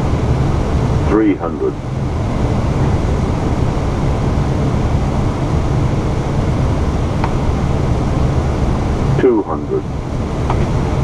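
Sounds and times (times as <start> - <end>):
cockpit rumble of airflow and engines: 0.0 - 11.0.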